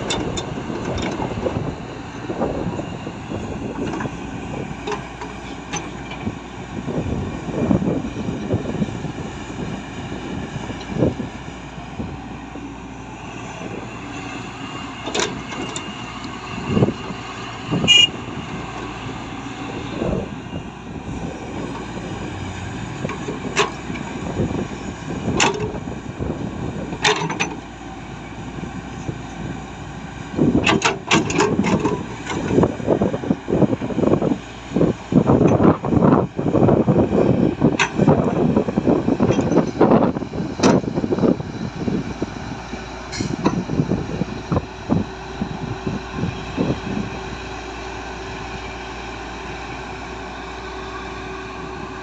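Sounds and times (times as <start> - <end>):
heavy machinery diesel engine: 0.0 - 52.0.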